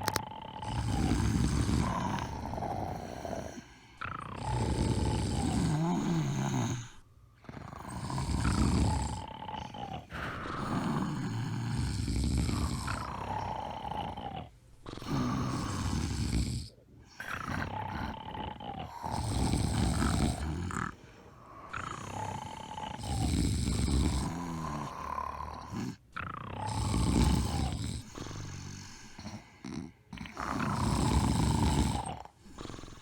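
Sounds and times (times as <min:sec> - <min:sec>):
rattling snoring: 0:00.0 - 0:33.0.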